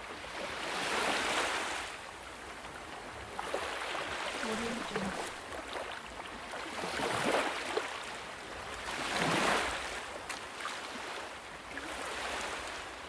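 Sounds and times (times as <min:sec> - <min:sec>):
small waves washing in: 0:00.0 - 0:13.0.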